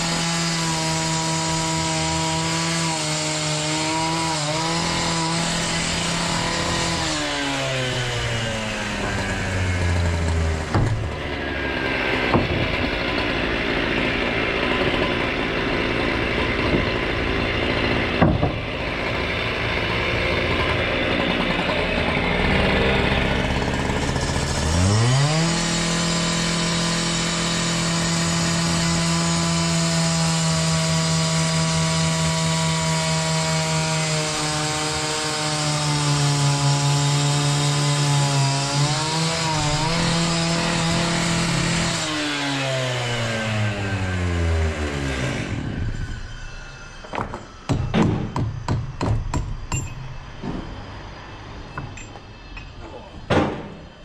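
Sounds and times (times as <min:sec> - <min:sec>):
cut-off saw engine revving: 0:00.0 - 0:47.7
harsh grinding on masonry: 0:00.0 - 0:53.1.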